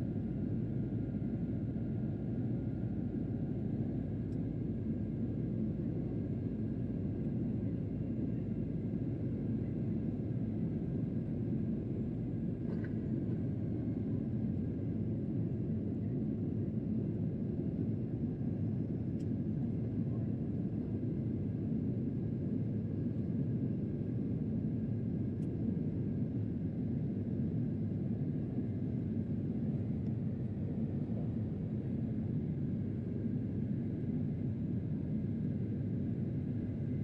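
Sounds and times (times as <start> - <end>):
airplane cabin rumble: 0.0 - 37.0.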